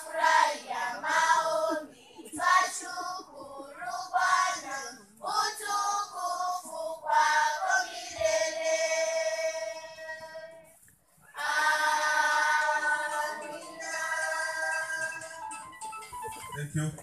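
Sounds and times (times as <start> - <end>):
children's choir singing: 0.0 - 10.7, 11.3 - 15.4.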